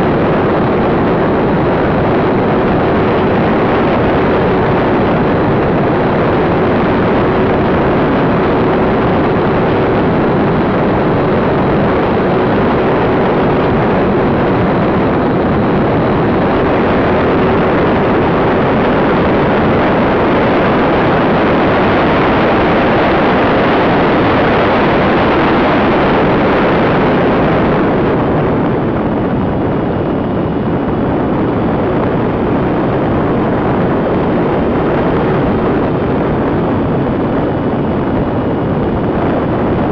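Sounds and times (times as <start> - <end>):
airflow rushing over camera: 0.0 - 39.9.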